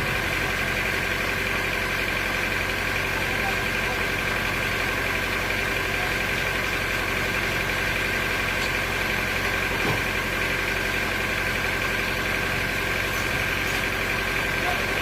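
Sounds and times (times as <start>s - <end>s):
sawmill machinery drone: 0.0s - 15.0s.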